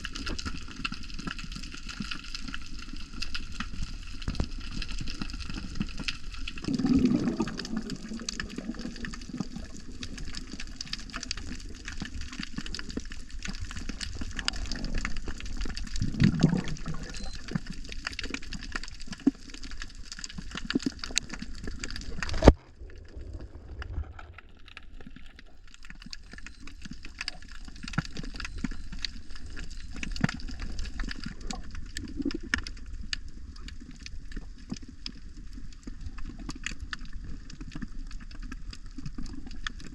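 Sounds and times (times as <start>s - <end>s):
low bubbling gurgles: 0.0s - 39.9s
underwater crackle of clicks: 0.0s - 39.9s.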